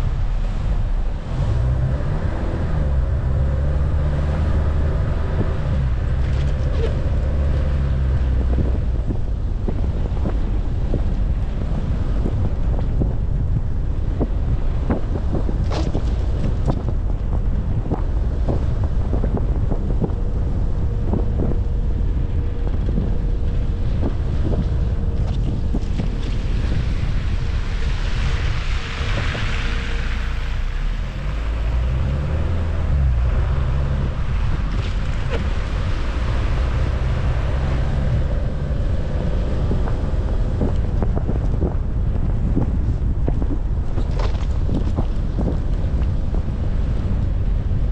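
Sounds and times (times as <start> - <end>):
tyre and road noise: 0.0 - 47.9
wind buffeting microphone: 0.0 - 47.9.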